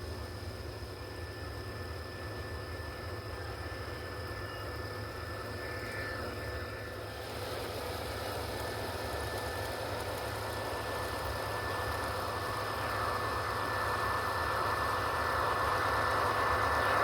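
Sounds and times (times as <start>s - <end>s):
model train running: 0.0s - 17.0s.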